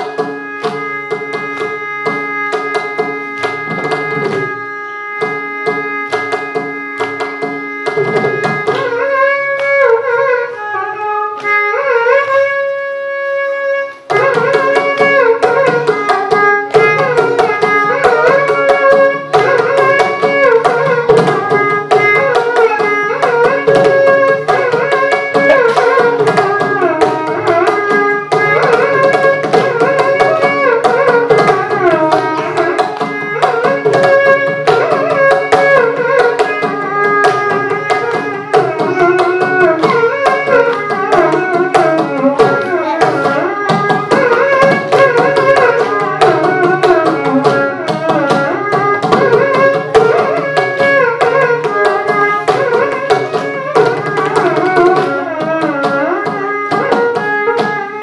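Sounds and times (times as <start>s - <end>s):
hand drum accompaniment: 0.0s - 58.0s
violin melody sliding between notes: 0.0s - 58.0s.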